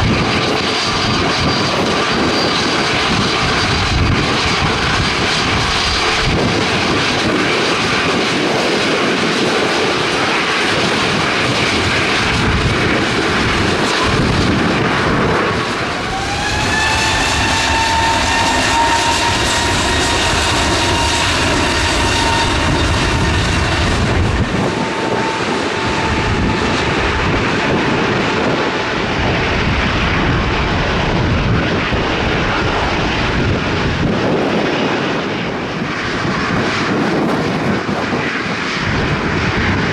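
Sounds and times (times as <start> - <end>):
engine whine: 0.0 - 39.9
jet engines roaring: 0.0 - 39.9
wind on microphone: 0.0 - 39.9.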